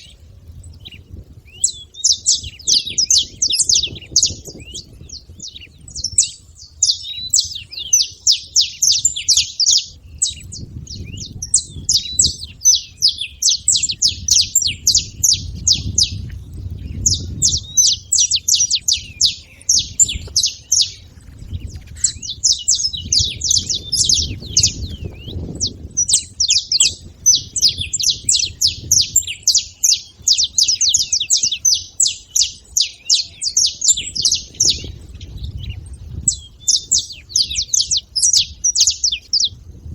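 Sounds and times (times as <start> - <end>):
finches singing and chirping: 0.0 - 39.9.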